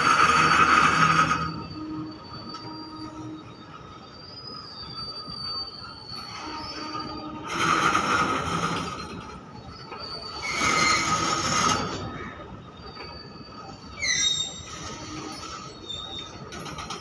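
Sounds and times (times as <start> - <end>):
train wheels squealing: 0.0 - 17.0.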